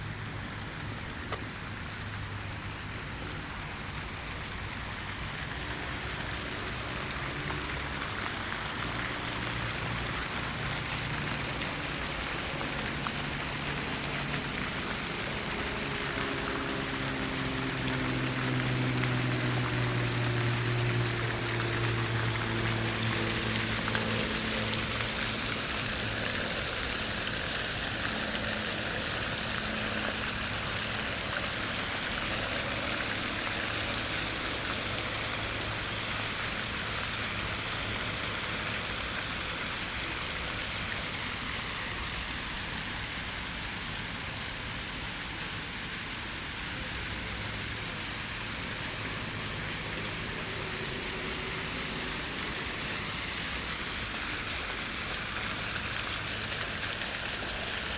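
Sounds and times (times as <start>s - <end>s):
fountain water splashing: 0.0s - 57.9s.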